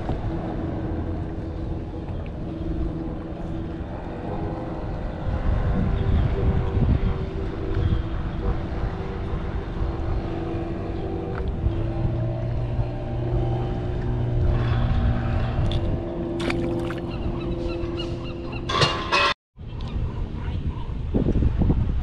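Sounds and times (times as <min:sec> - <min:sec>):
motor engine droning: 0:00.0 - 0:18.7.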